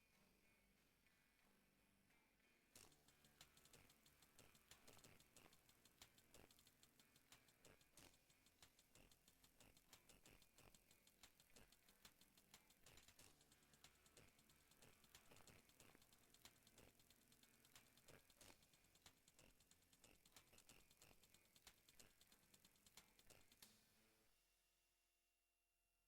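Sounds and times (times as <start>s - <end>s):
faint irregular clicks: 2.7s - 23.8s.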